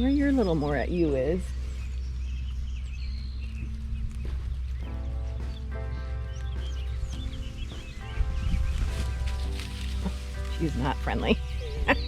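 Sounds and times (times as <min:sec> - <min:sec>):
birds chirping: 0:00.0 - 0:12.0
background music of held chords: 0:00.1 - 0:12.0.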